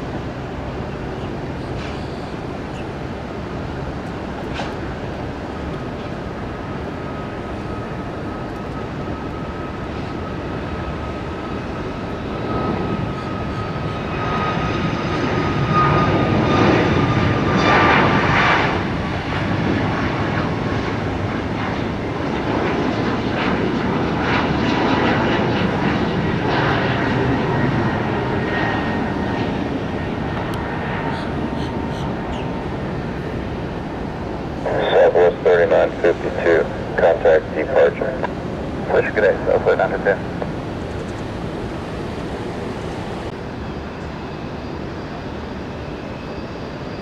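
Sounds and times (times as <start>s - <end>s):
airliner engines passing: 0.0s - 47.0s.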